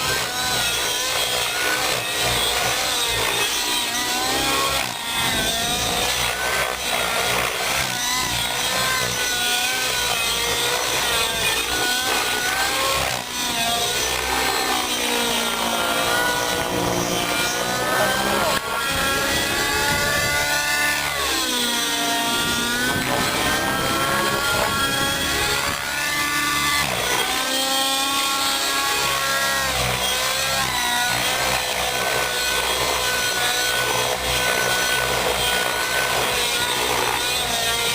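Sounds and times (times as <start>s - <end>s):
rc helicopter engine buzzing: 0.0s - 37.9s.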